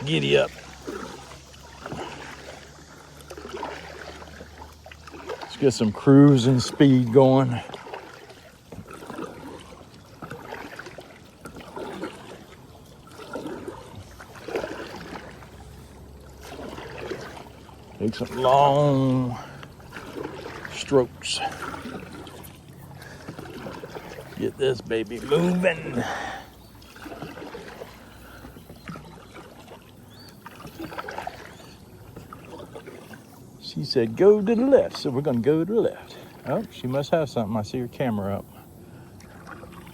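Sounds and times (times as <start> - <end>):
kayak paddle splashing: 0.0 - 39.9.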